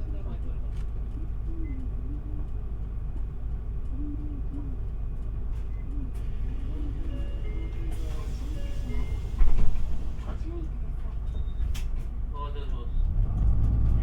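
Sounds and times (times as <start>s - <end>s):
bus engine rumble and road noise: 0.0s - 14.0s.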